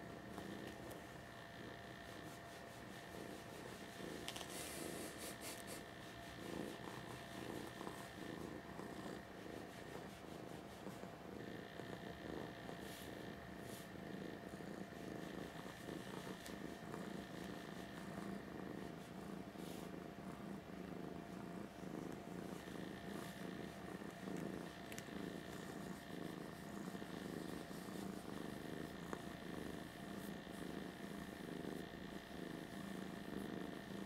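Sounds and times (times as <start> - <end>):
cat purring: 0.0 - 34.0.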